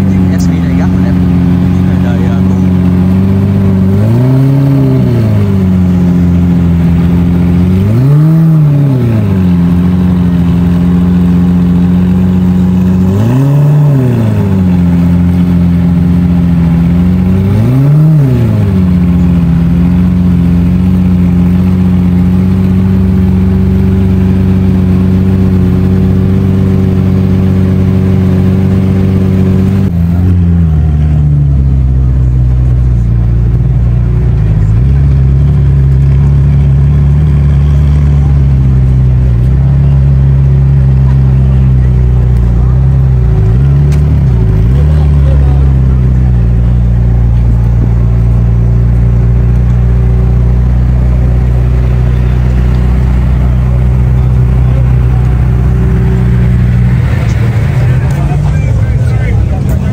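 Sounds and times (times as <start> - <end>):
lower-pitched engine idling: 0.0 - 59.9
sports car engine revving and idling: 0.0 - 59.9.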